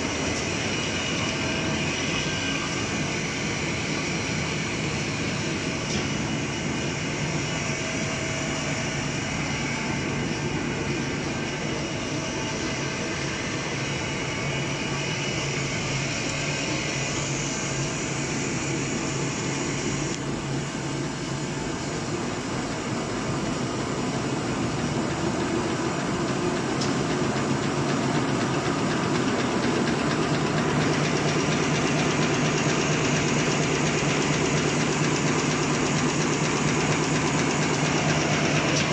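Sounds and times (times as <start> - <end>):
paper folding machine running: 0.0 - 38.9.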